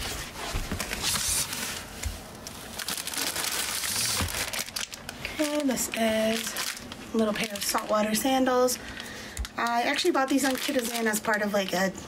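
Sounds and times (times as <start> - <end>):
plastic bags rustling and crinkling: 0.0 - 11.9.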